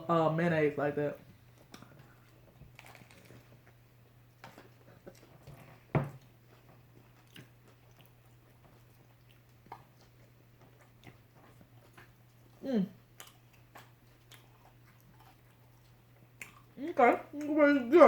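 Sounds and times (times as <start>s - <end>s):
people chewing sandwiches: 1.2s - 18.0s.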